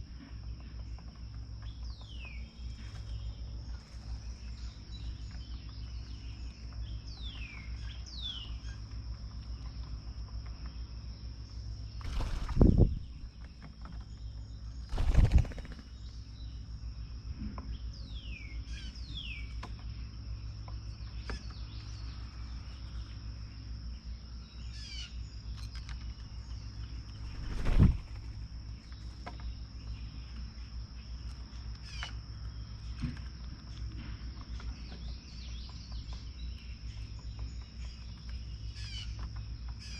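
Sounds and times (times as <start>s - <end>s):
high insect drone: 0.0s - 39.9s
small songbirds chirping: 0.0s - 39.9s.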